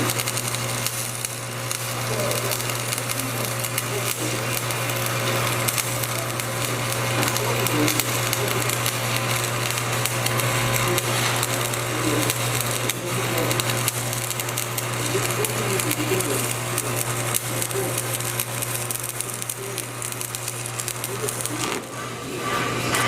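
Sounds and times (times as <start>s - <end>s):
steady low hum: 0.0s - 23.0s
welding arc crackling: 0.0s - 23.0s.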